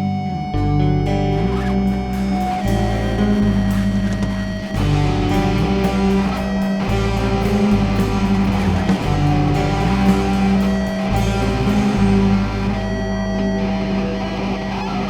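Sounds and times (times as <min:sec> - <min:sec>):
bass guitar: 0:00.0 - 0:15.0
electric guitars: 0:00.0 - 0:15.0
steady drum beat: 0:01.0 - 0:13.3.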